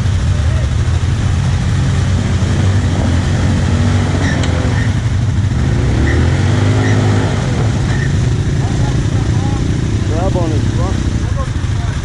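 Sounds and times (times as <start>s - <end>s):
quad engine idling: 0.0s - 12.0s
quad engine revving: 0.0s - 12.0s.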